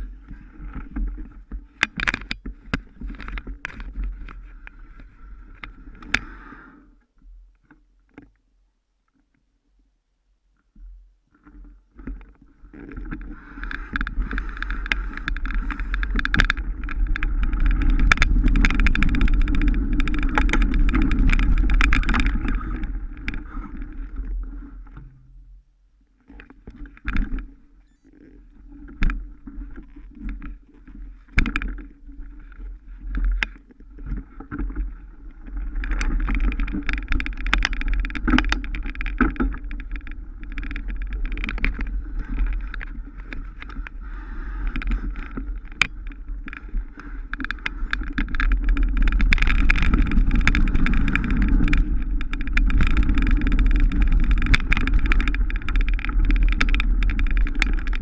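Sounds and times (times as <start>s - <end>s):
bike clicks and rattles: 0.7s - 6.3s, 12.8s - 25.3s, 26.3s - 58.0s.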